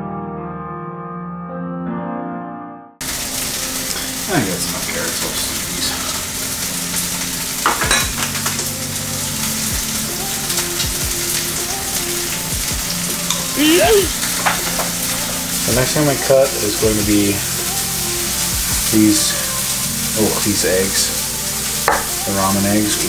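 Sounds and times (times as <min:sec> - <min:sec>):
chicken sizzling in a pan: 0:03.0 - 0:23.0.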